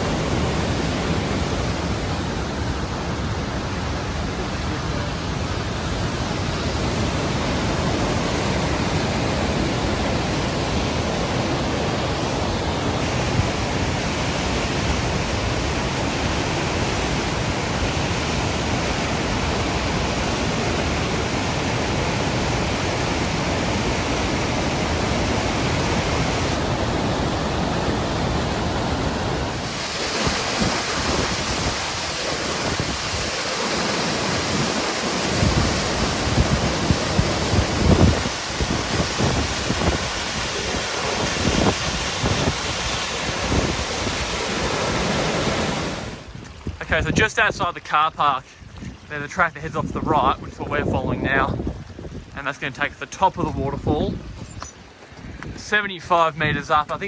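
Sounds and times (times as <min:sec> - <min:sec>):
waterfall roaring: 0:00.0 - 0:51.6
wind gusting on microphone: 0:00.0 - 0:57.0.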